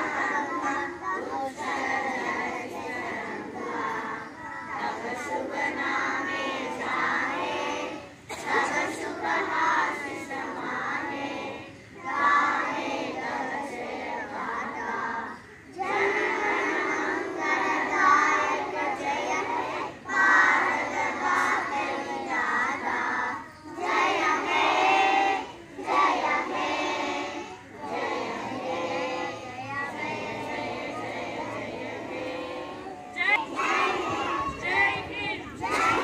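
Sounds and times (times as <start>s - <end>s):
children singing in unison: 0.0s - 36.0s.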